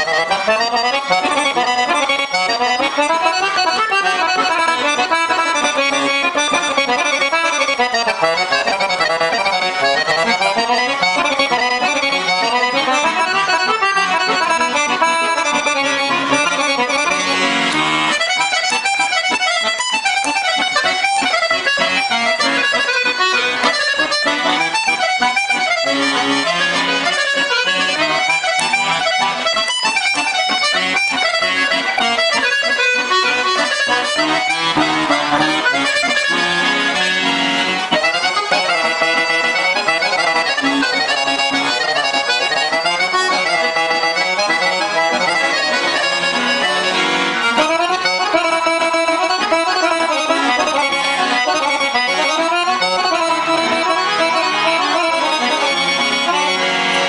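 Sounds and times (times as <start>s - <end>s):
piano accordion playing lively: 0.0s - 57.0s.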